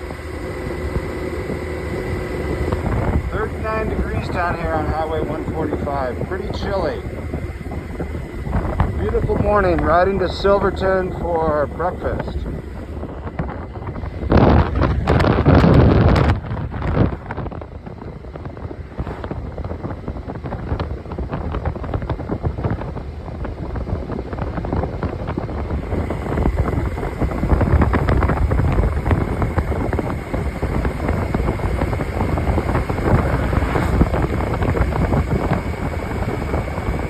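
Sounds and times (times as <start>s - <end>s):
motorcycle engine rumble: 0.0s - 37.0s
wind buffeting microphone: 0.0s - 37.0s.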